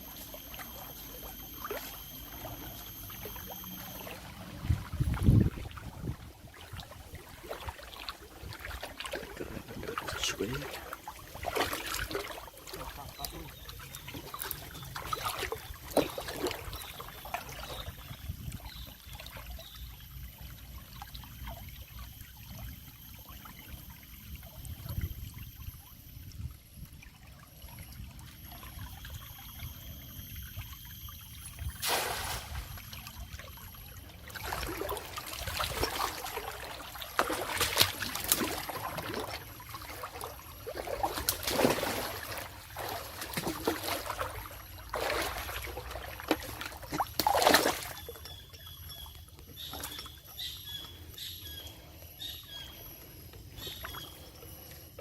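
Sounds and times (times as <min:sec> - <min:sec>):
water splashing around boat: 0:00.0 - 0:55.0.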